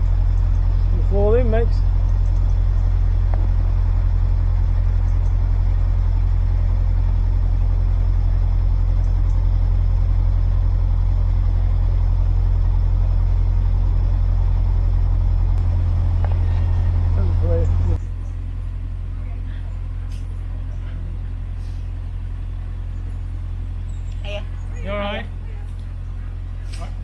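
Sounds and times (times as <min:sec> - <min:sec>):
diesel boat engine running: 0:00.0 - 0:27.0.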